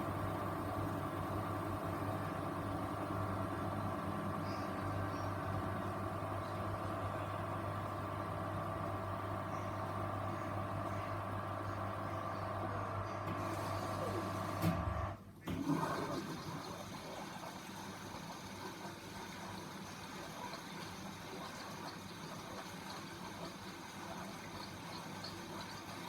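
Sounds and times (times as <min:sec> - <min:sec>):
washing machine motor hum: 0:00.0 - 0:26.0
water rushing through machine: 0:00.0 - 0:26.0.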